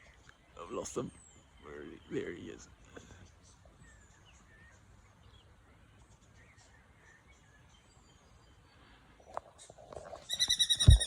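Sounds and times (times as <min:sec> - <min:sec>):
distant birds chirping: 0:00.0 - 0:11.0.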